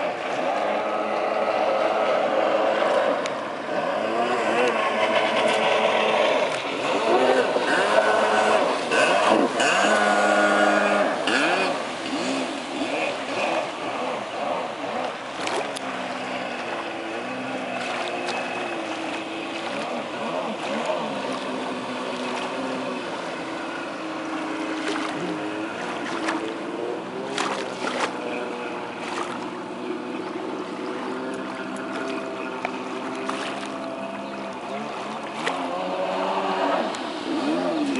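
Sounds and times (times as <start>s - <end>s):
personal watercraft engine running: 0.0s - 37.9s.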